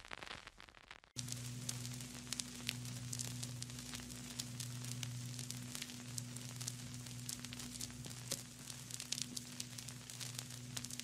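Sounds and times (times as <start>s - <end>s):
vinyl record crackle: 0.0s - 11.0s
low hum: 1.2s - 11.0s.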